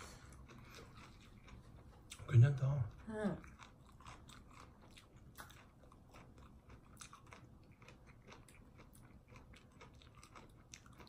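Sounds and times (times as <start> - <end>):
mouths chewing: 0.2 - 11.0.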